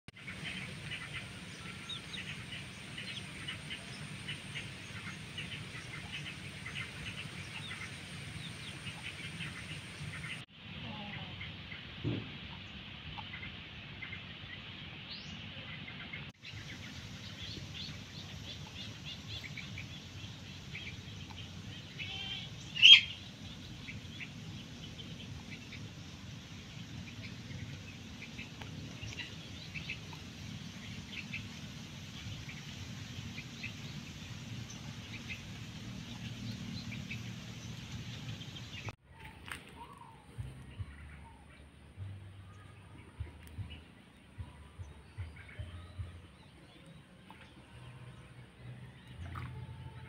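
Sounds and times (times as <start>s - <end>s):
birds chirping: 0.1s - 50.0s
low steady background noise: 0.2s - 50.0s.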